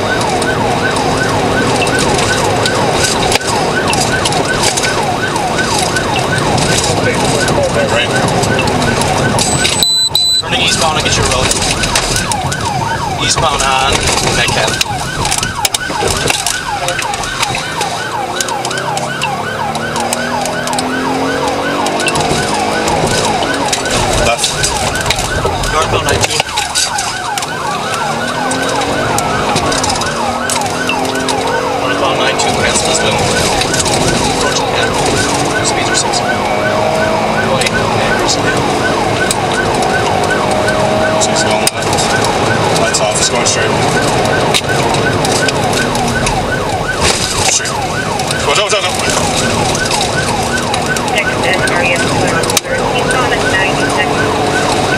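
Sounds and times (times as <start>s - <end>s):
car engine accelerating: 0.0s - 54.9s
police siren yelping: 0.0s - 54.9s.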